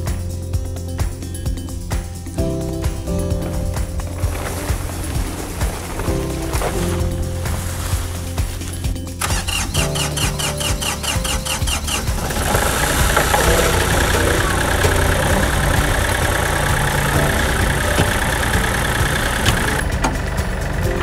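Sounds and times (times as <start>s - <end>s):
background music with steady beat: 0.0s - 21.0s
tractor diesel engine running: 2.4s - 21.0s.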